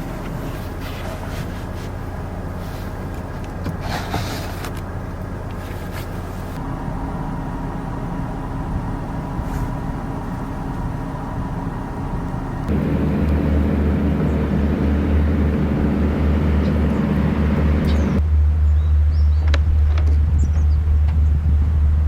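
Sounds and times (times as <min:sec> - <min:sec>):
road noise: 0:00.0 - 0:22.0
vehicle engine drone: 0:00.0 - 0:22.0.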